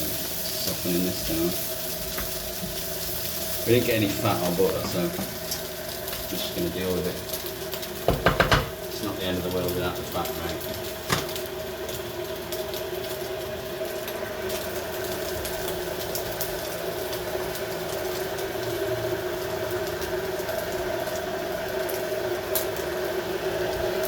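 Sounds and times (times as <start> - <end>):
food sizzling in a pan: 0.0 - 24.0
steady mechanical hum: 0.0 - 24.0.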